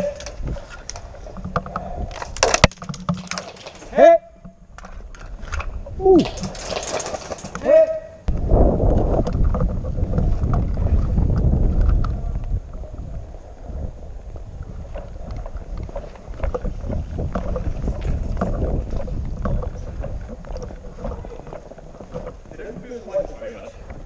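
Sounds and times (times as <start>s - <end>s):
wind buffeting microphone: 0.0s - 3.3s, 3.9s - 24.0s.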